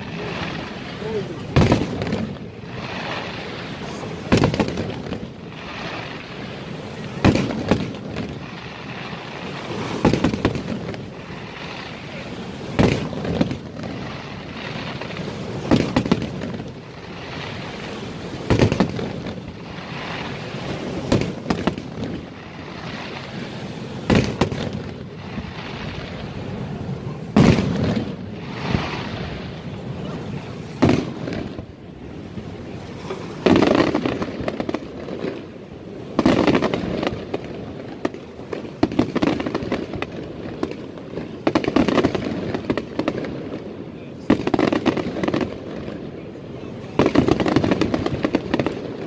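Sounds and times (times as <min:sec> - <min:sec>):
firework shells booming: 0:00.0 - 0:46.0, 0:46.8 - 0:49.0
steady rushing noise: 0:00.0 - 0:49.0.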